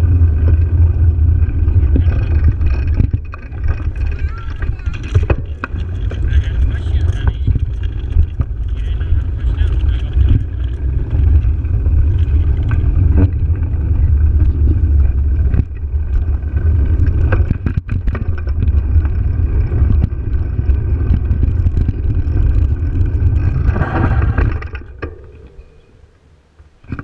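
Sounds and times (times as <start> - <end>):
wind buffeting microphone: 0.0 - 25.5
tyres rumbling over pavement: 0.0 - 26.2
clicks and rattles: 1.4 - 25.7.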